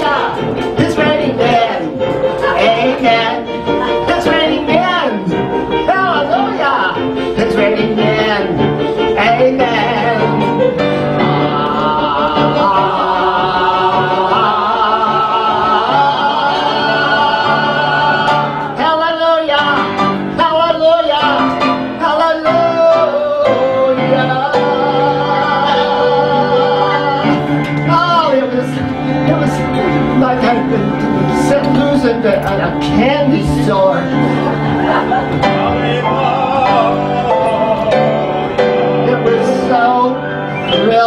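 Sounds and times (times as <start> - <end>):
man singing into microphone: 0.0 - 34.5, 35.6 - 41.0
piano accompaniment: 0.0 - 41.0.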